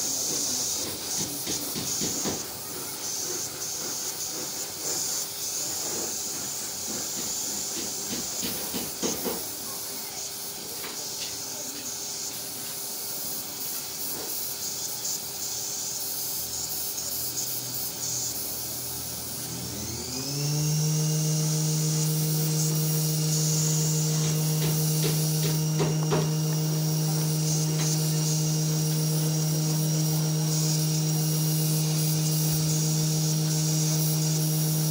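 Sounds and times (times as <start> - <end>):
air compressor motor whine: 0.0 - 34.9
spray gun hissing: 0.0 - 34.9.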